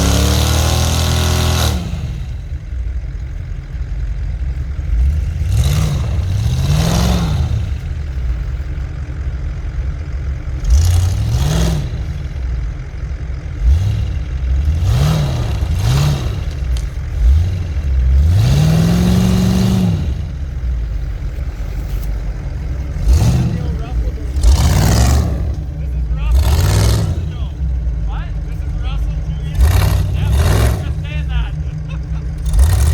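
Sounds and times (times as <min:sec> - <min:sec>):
off-road vehicle engine revving: 0:00.0 - 0:32.9.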